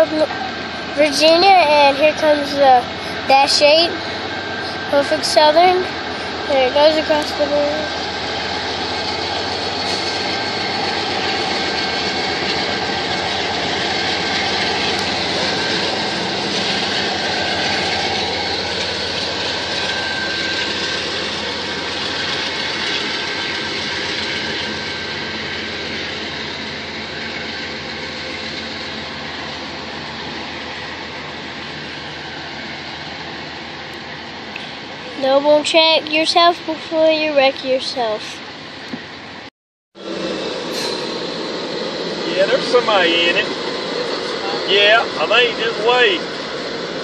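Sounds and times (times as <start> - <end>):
freight cars rolling on rails: 0.0 - 39.4, 40.0 - 47.0
diesel locomotives running: 0.0 - 47.0.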